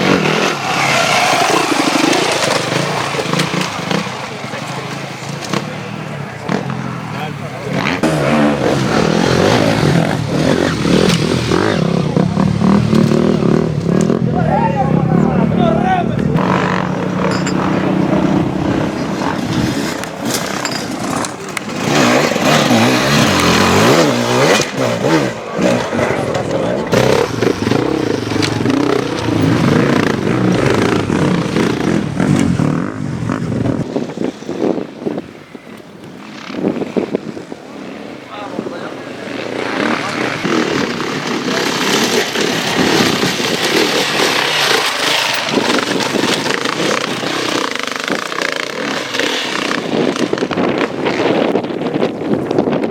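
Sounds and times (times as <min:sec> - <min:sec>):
motorcycle engine revving: 0:00.0 - 0:34.9, 0:38.6 - 0:52.1.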